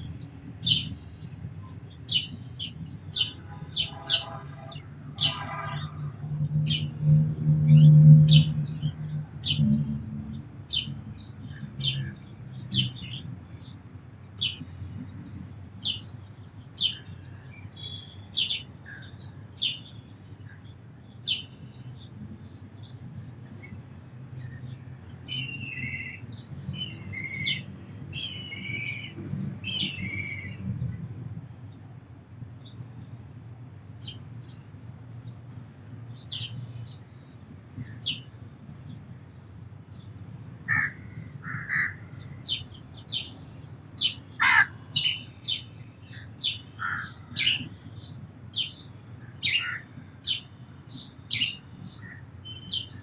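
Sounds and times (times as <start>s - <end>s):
sparrows chirping: 0.0s - 53.0s.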